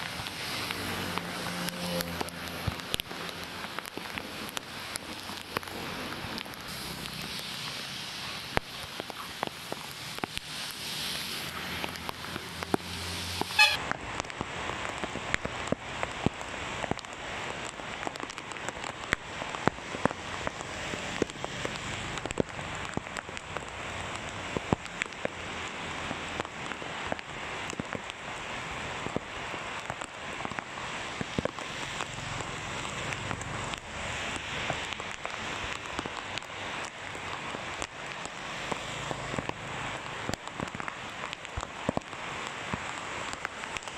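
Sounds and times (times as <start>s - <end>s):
heavy rain on wet road: 0.0s - 43.9s
raindrop ticks: 0.0s - 43.9s.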